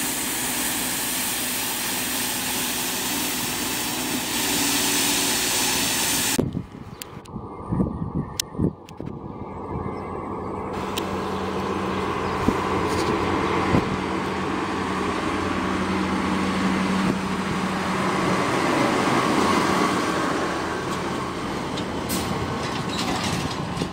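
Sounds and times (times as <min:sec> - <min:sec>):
tractor diesel engine: 0:00.0 - 0:06.4, 0:10.2 - 0:23.9.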